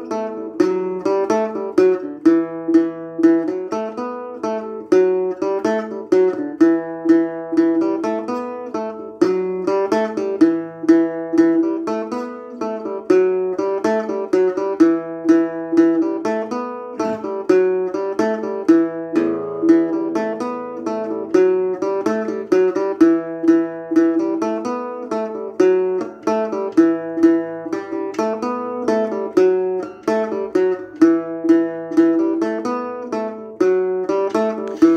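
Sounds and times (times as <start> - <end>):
acoustic guitar picking: 0.0 - 34.9.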